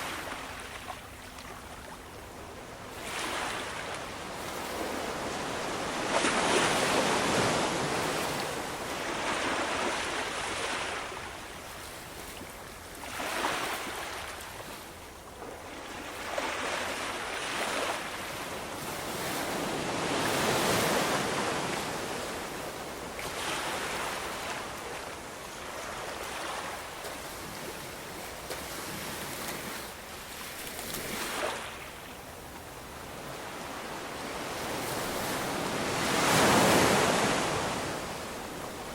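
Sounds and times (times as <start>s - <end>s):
ocean waves breaking: 2.6s - 14.8s, 15.4s - 38.9s.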